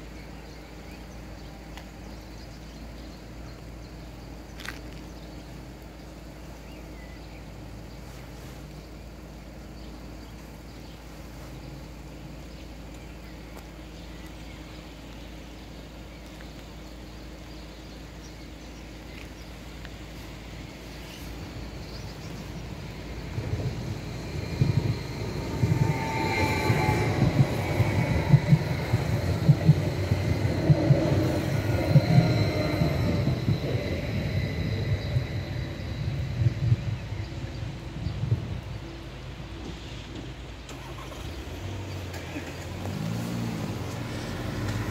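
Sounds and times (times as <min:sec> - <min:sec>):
low outdoor rumble: 0:00.0 - 0:44.9.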